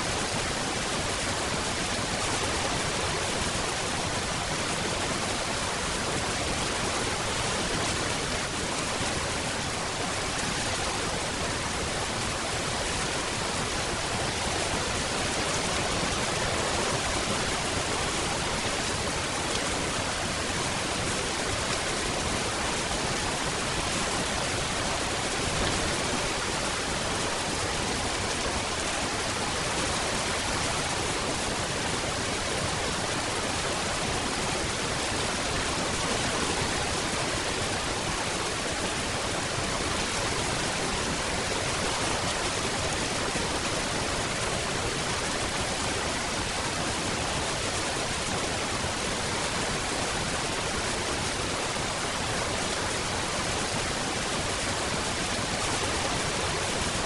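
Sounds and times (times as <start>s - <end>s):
dense rainfall: 0.0s - 57.0s.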